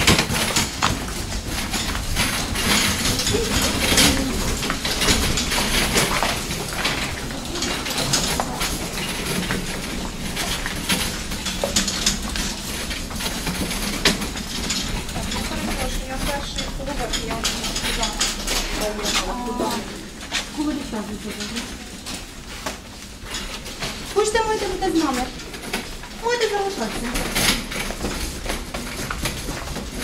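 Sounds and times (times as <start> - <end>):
footsteps: 0.0 - 30.0.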